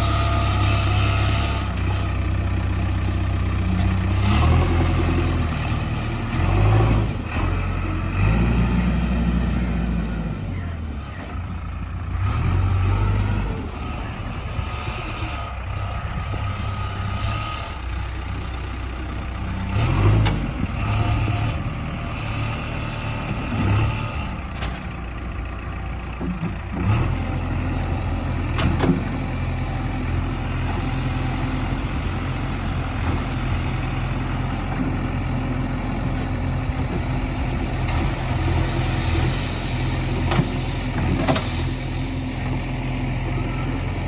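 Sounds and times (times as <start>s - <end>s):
heavy diesel engine revving: 0.0s - 44.0s.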